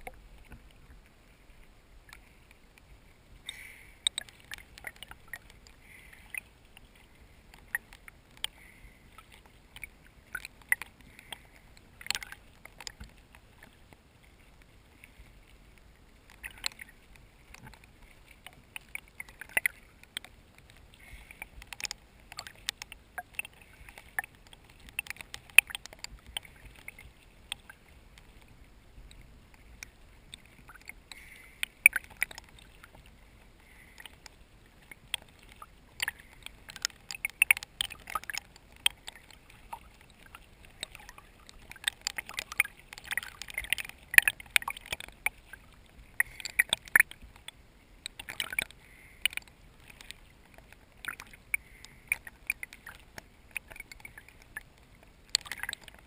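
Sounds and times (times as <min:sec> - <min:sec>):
muffled water sloshing: 0:00.0 - 0:56.0
sharp clicks and crackles: 0:00.0 - 0:56.0.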